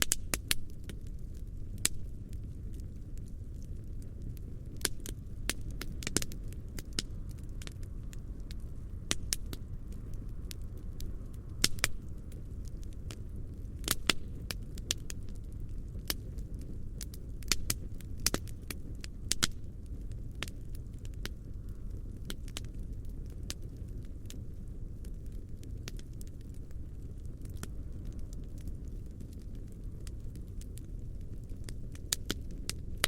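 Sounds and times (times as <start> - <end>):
campfire flames burning: 0.0 - 33.0
wood crackling and snapping: 0.0 - 33.0.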